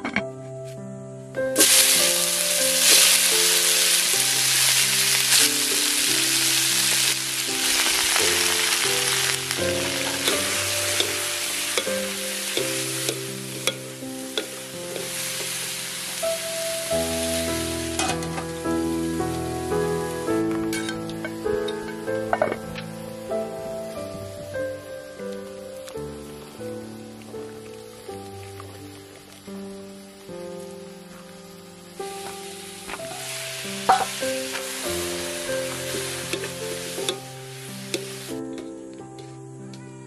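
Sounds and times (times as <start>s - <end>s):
background music: 0.0s - 40.0s
vegetables sizzling in a wok: 1.6s - 38.7s.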